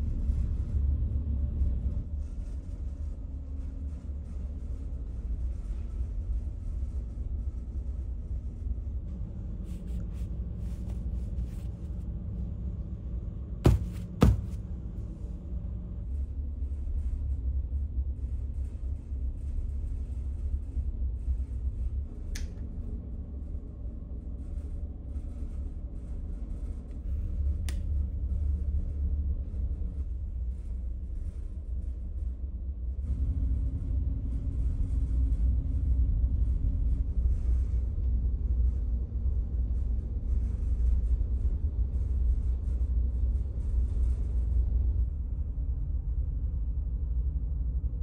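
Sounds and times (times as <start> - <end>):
low machinery rumble: 0.0 - 48.0.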